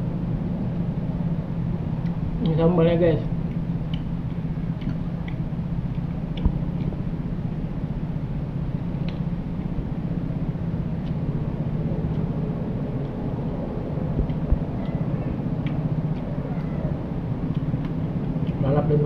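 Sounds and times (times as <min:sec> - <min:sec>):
low motor-like hum: 0:00.0 - 0:19.0.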